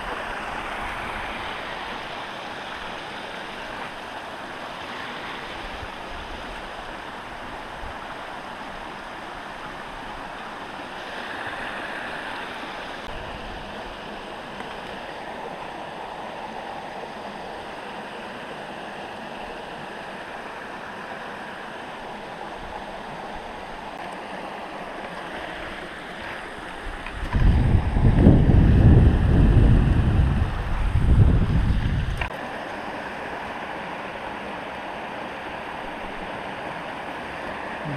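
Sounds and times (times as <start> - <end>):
creek water rushing: 0.0 - 37.9.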